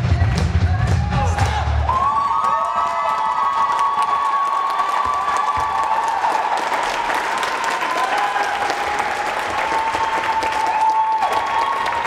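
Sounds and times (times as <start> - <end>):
crowd applauding: 1.4 - 12.0.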